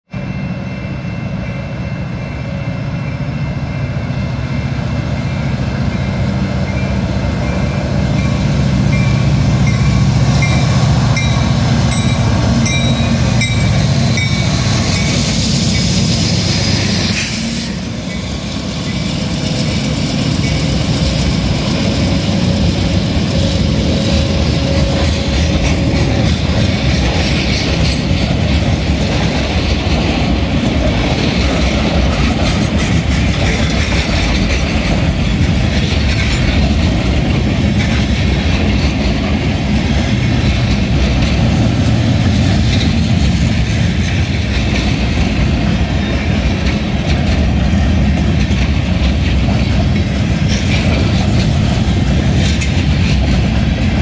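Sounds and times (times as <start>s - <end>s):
diesel locomotive engine rumble: 0.1s - 54.0s.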